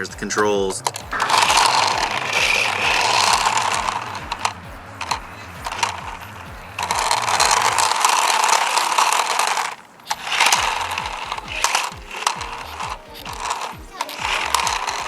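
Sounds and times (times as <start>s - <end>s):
toy car electric motor whirring: 0.9s - 15.0s.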